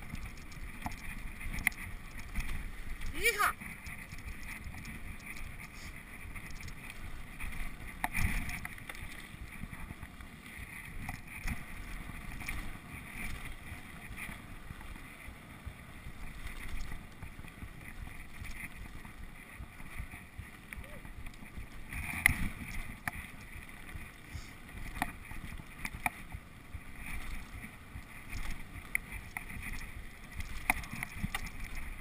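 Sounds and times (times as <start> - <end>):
bike rattling: 0.0 - 32.0
wind on microphone: 0.0 - 32.0.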